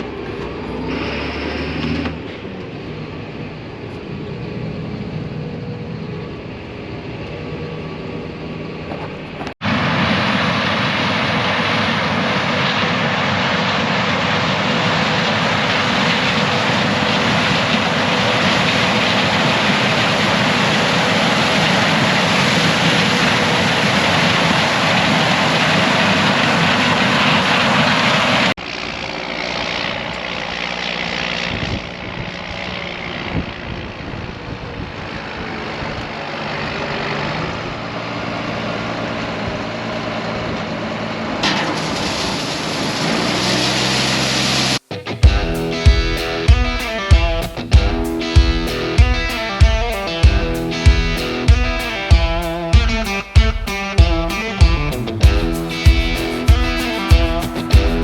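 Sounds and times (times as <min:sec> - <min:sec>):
farm machinery running: 0:00.0 - 0:34.1, 0:34.7 - 0:58.0.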